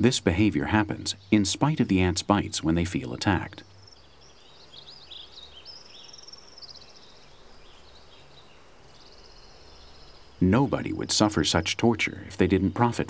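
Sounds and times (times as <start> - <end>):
small birds chirping and trilling: 0.0 - 13.0.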